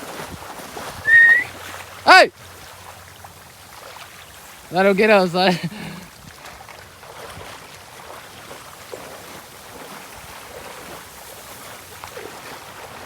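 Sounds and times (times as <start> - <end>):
small splashes: 0.0 - 13.0
water noise: 0.0 - 13.0
wind: 0.0 - 13.0.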